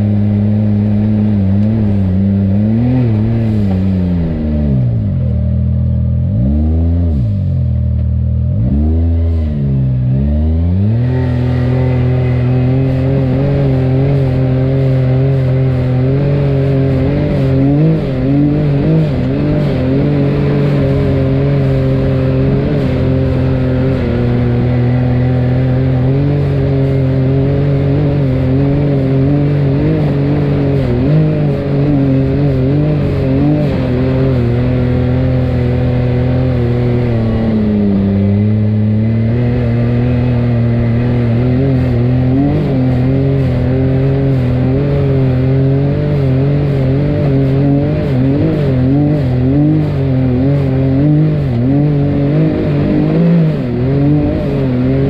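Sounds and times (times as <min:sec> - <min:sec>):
utility vehicle engine under load: 0:00.0 - 0:55.0.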